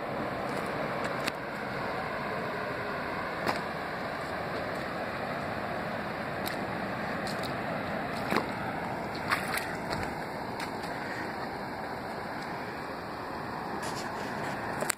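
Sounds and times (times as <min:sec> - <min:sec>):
surf on a reef: 0:00.0 - 0:14.9.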